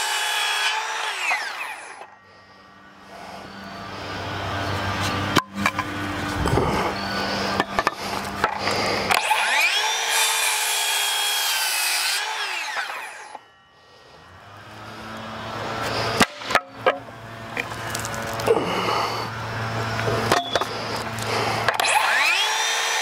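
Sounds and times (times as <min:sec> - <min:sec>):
circular saw cutting wood: 0:00.0 - 0:23.0.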